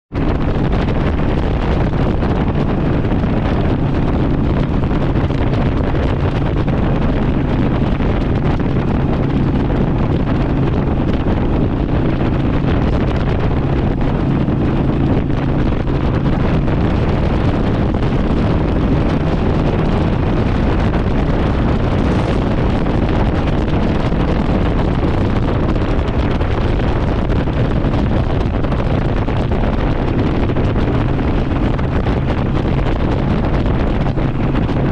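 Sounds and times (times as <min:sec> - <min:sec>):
motorcycle engine running: 0:00.1 - 0:34.9
wind noise on microphone: 0:00.1 - 0:34.9.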